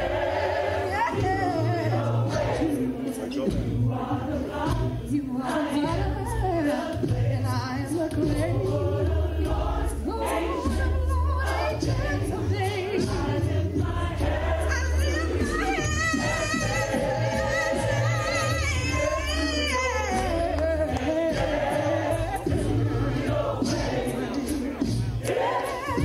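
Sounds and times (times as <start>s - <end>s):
gospel choir of women singing: 0.0s - 26.0s.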